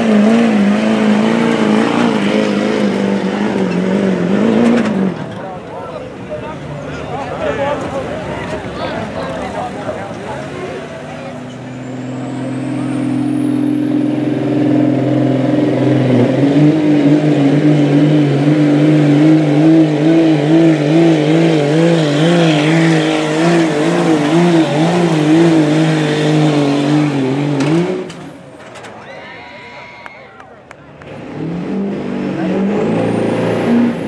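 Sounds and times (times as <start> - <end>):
diesel truck engine at full throttle: 0.0 - 29.0, 30.4 - 34.0.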